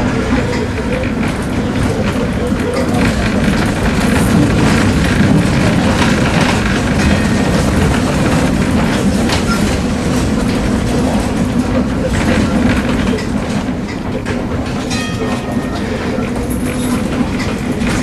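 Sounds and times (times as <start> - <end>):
tram rumble and hum: 0.0 - 18.0.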